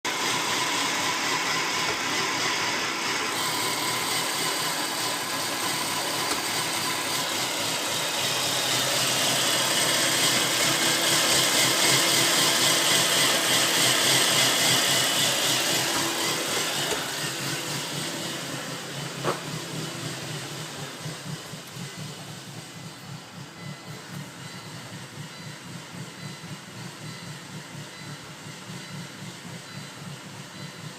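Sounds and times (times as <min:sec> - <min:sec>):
car engine idling rough: 0:00.1 - 0:30.9.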